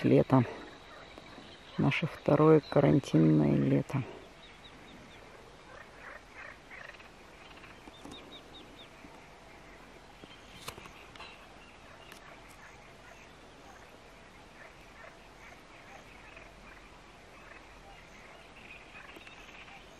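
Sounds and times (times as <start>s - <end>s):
birds chirping and trilling: 0.0s - 19.9s
low background hiss: 0.0s - 19.9s.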